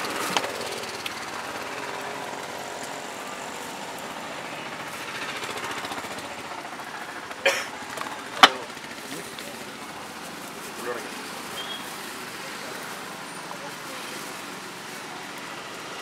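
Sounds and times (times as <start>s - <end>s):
food stall background noise: 0.0s - 16.0s.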